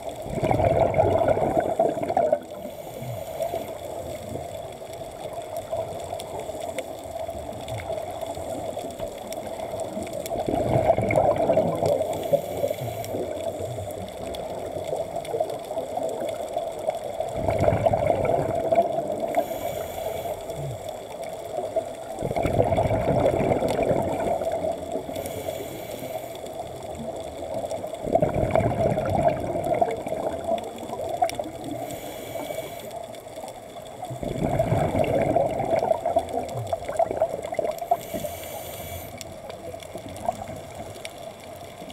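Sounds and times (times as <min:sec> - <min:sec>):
exhaled bubbles underwater: 0:00.0 - 0:41.9
steady underwater hum: 0:00.0 - 0:41.9.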